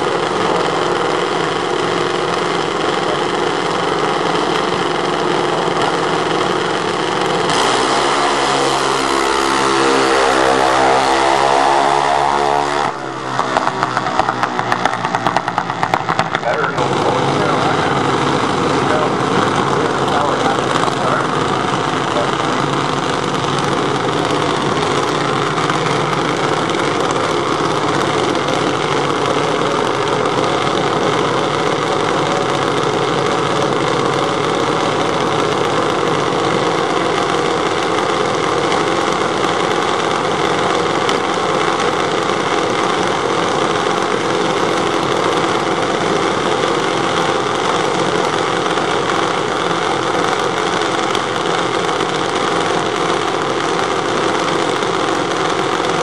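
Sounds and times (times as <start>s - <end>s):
dragster engines idling: 0.0s - 56.0s.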